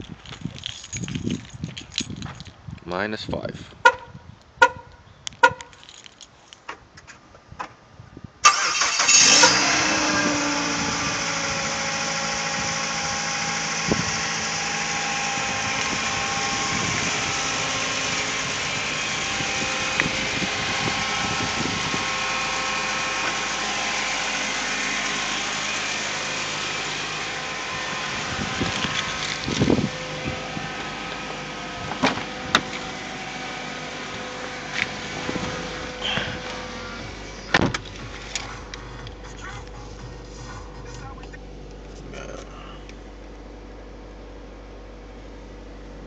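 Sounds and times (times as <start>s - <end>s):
car engine starting and idling: 8.4s - 46.0s.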